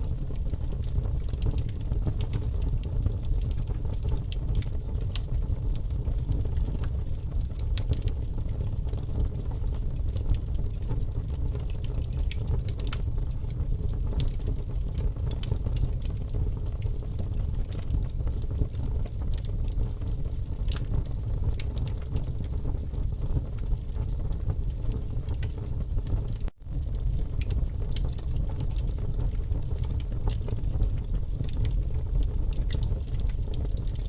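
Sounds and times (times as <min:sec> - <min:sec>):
campfire low rumble: 0:00.0 - 0:34.0
fire crackling and popping: 0:00.0 - 0:34.0.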